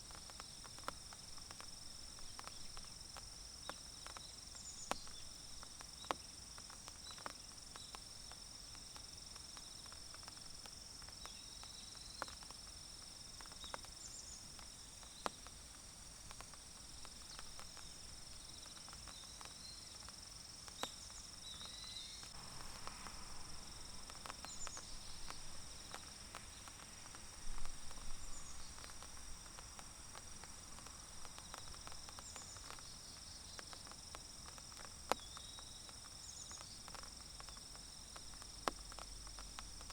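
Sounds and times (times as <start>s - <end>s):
insects trilling: 0.0s - 39.9s
rain dripping: 0.0s - 39.9s.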